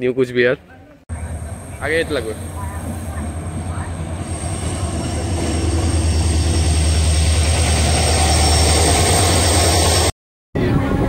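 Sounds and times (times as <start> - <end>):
train rumbling and rushing: 1.1 - 11.0.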